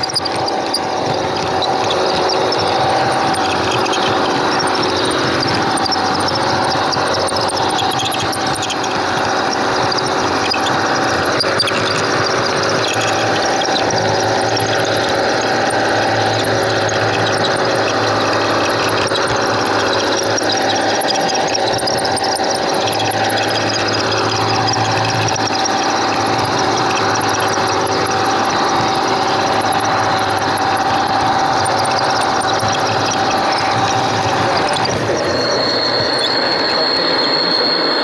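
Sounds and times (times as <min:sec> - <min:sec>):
model train motor whine: 0:00.0 - 0:38.0
wheels rumbling on rails: 0:00.0 - 0:38.0.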